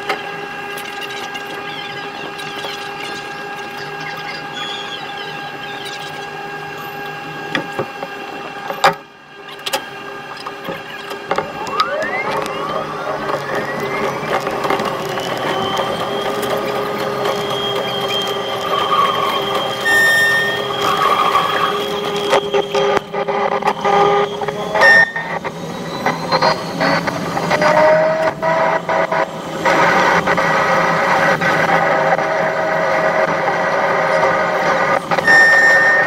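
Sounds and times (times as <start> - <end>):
electric train hum: 0.0 - 36.0
traction motor whine: 0.0 - 36.0
train running noise: 0.0 - 36.0.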